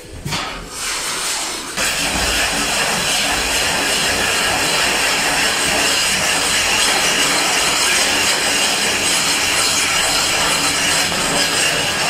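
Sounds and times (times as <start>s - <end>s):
block scraping plaster wall: 0.0s - 12.0s.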